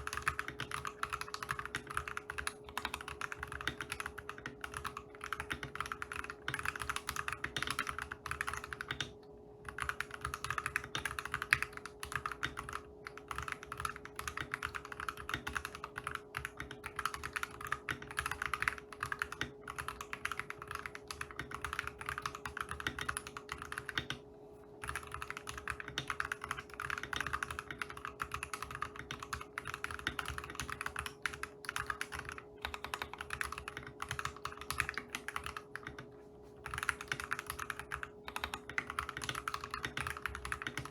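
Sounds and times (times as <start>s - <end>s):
keyboard typing: 0.0s - 24.2s, 24.8s - 40.9s
faint steady hum: 0.0s - 40.9s.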